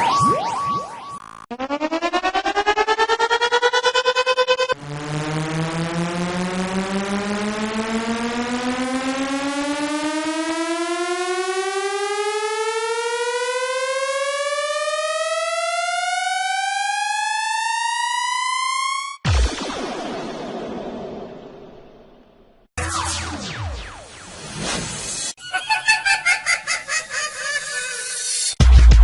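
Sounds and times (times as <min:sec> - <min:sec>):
synthesized rising siren-like tone: 0:00.0 - 0:22.1, 0:22.8 - 0:25.8.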